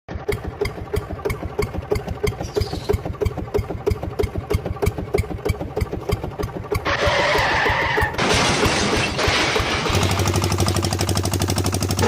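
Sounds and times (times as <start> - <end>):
tractor engine idling: 0.1 - 12.0.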